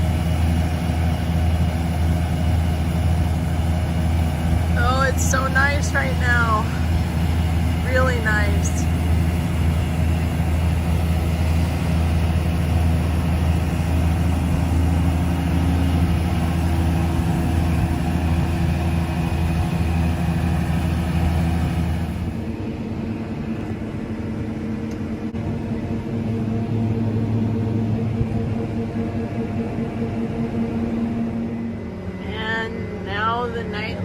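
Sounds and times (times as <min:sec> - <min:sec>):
combine harvester engine hum: 0:00.0 - 0:34.0.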